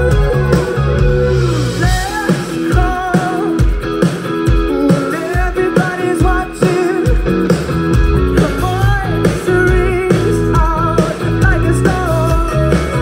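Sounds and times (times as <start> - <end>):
person singing: 0.0 - 3.8, 4.5 - 7.3, 8.4 - 13.0
bass guitar: 0.0 - 13.0
drum beat: 0.0 - 13.0
electric guitar: 0.0 - 13.0.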